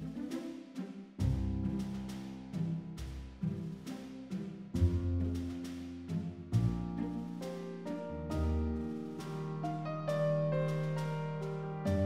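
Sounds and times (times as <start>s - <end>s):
background music with percussive beat: 0.0s - 9.8s.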